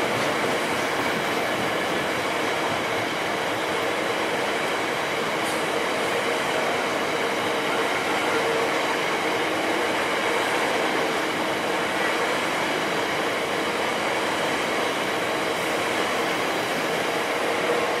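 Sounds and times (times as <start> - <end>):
steel wheels rumbling on rails: 0.0 - 18.0.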